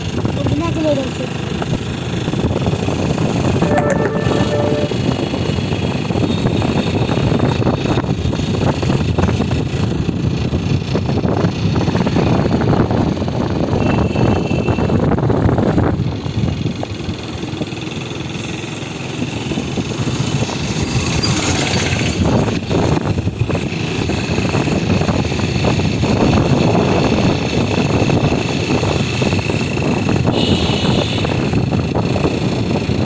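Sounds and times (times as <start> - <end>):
road noise: 0.0 - 33.0
small vehicle engine running: 0.0 - 33.0.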